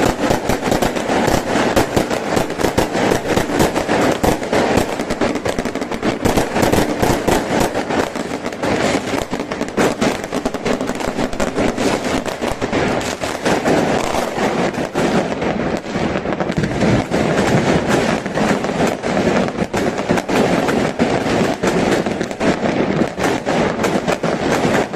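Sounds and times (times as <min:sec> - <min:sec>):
fireworks crackling and banging: 0:00.0 - 0:24.9.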